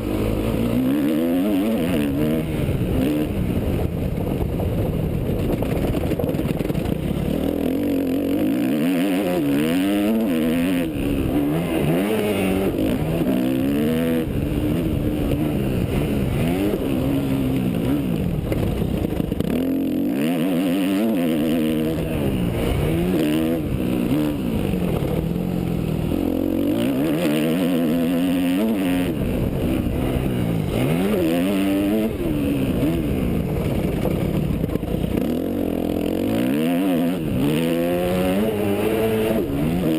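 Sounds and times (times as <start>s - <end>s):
dirt bike engine revving: 0.0s - 4.5s, 5.4s - 39.9s.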